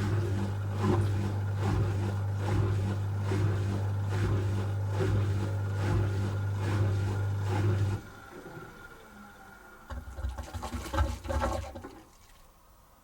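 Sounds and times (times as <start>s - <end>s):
washing machine spinning: 0.0s - 11.9s.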